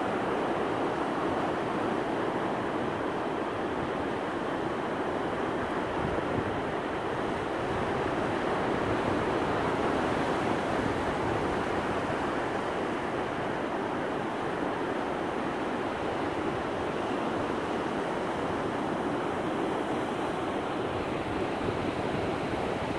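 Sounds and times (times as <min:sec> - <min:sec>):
ocean waves washing on beach: 0:00.0 - 0:22.9.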